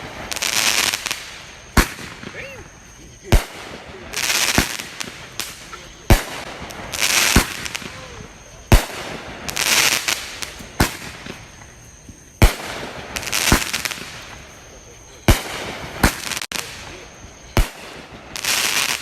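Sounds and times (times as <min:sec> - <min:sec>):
firework bangs: 0:00.0 - 0:19.0
firework crackling: 0:00.0 - 0:19.0.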